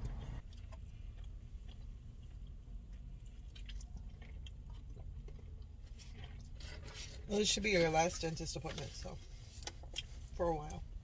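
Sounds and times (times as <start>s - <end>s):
girl chewing food: 0.0s - 7.3s, 9.3s - 11.0s.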